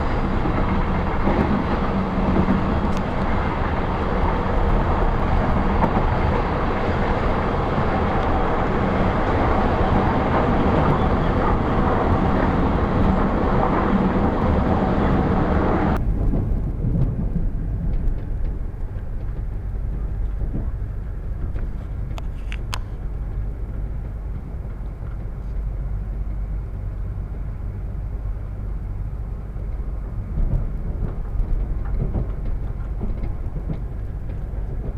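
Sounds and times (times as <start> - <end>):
train rumble and hiss: 0.0 - 34.9.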